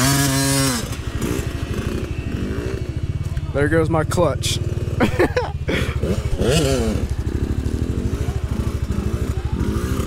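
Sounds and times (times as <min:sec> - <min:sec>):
dirt bike engine revving: 0:00.0 - 0:10.0
dirt bike idling: 0:00.0 - 0:10.0.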